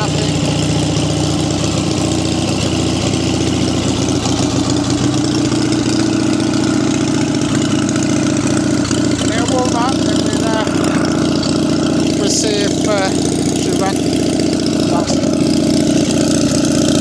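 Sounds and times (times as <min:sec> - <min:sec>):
petrol engine idling: 0:00.0 - 0:17.0.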